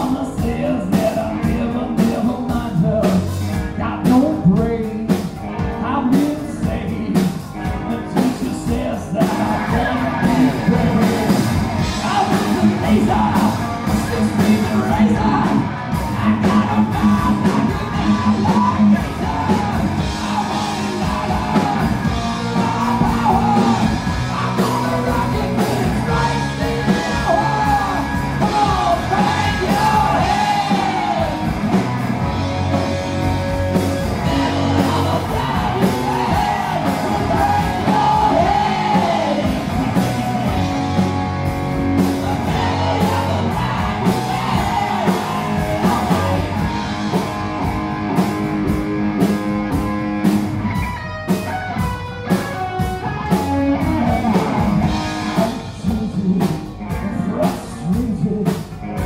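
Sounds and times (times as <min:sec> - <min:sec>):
person singing and yelling: 0:00.0 - 0:47.4, 0:50.7 - 0:59.0
bass guitar: 0:00.0 - 0:59.0
drum kit: 0:00.0 - 0:59.0
electric guitar: 0:00.0 - 0:59.0.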